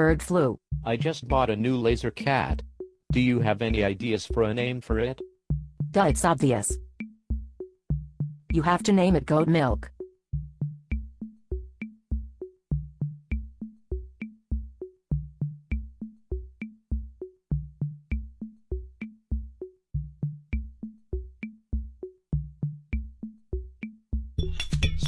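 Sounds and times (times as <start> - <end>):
electronic drum machine beat: 0.0 - 24.6.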